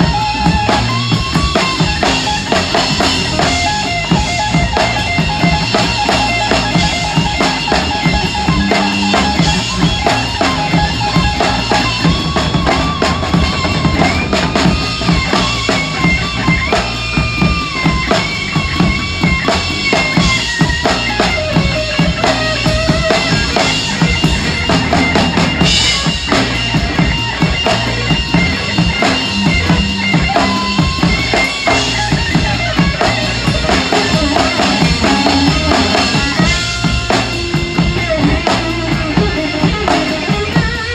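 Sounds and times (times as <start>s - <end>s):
drum kit with bass drum: 0.0s - 40.9s
electric guitar bending notes: 0.0s - 40.9s.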